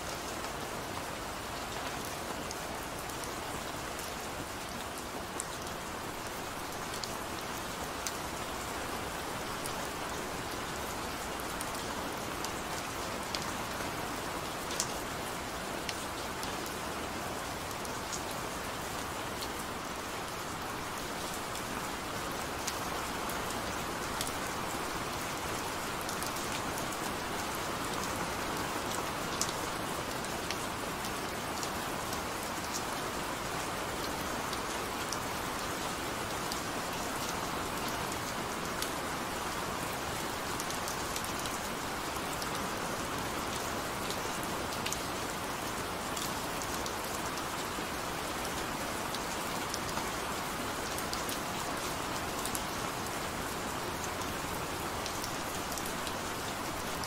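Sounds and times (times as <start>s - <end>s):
gentle steady rain: 0.0s - 57.0s.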